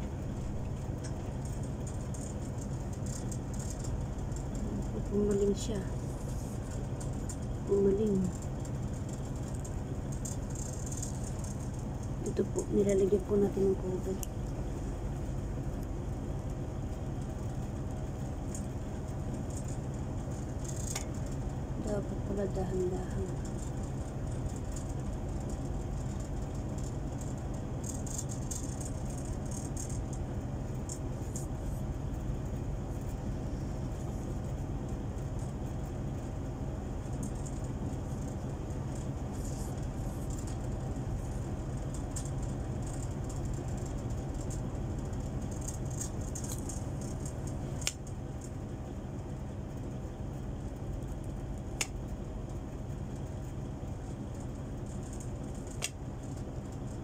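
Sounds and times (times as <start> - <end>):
low background rumble: 0.0 - 57.0.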